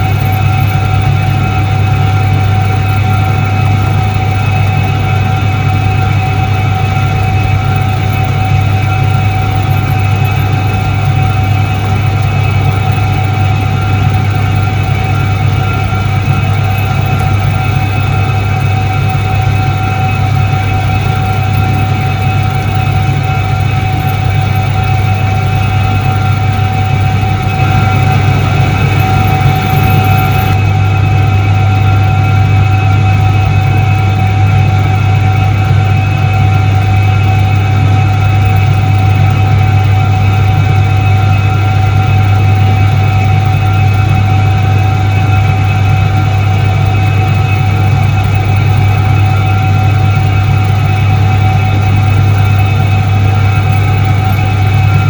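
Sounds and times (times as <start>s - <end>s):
washing machine motor humming: 0.0s - 55.0s.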